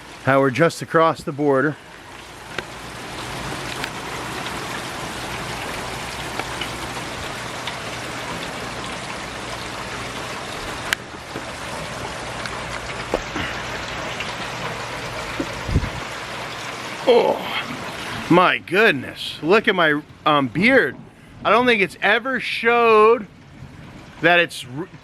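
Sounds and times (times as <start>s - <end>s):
steady rain falling: 0.0s - 20.8s, 21.4s - 25.0s.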